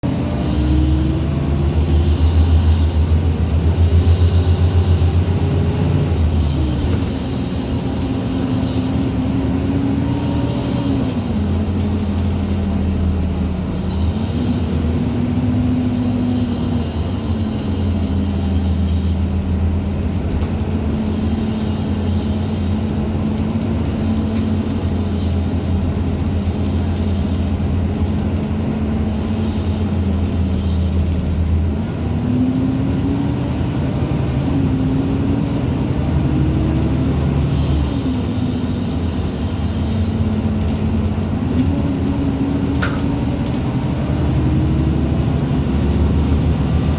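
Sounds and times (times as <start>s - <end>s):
low engine rumble: 0.0s - 46.9s
bus gearbox whine: 0.1s - 31.9s, 32.8s - 46.9s.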